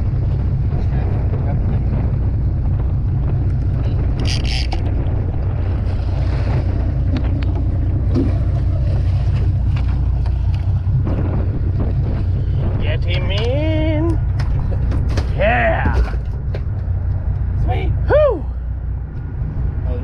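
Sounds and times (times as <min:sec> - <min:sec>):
boat engine rumbling: 0:00.0 - 0:20.0
wind buffeting microphone: 0:00.0 - 0:20.0.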